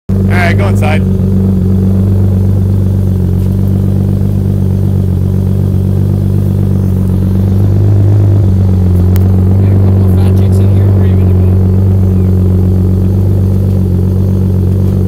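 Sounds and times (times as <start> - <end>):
car exhaust idling: 0.1 - 15.0.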